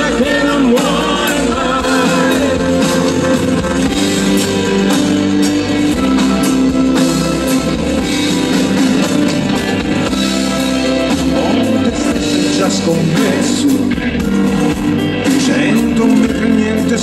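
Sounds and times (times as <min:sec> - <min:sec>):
bass guitar chords: 0:00.0 - 0:17.0
drum kit beat: 0:00.0 - 0:17.0
electric guitars: 0:00.0 - 0:17.0.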